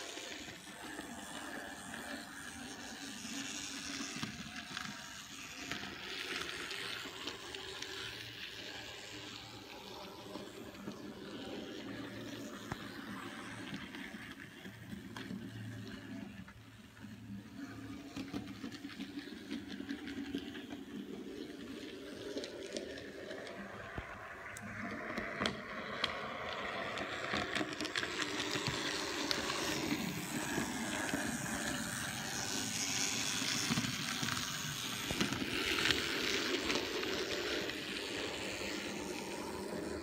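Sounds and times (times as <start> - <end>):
model train wheels rattling: 0.0 - 40.0
small electric motor whirring: 0.0 - 40.0.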